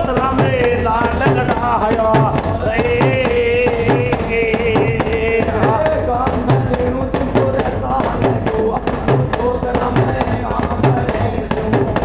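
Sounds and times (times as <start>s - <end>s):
men singing devotional song: 0.0s - 12.0s.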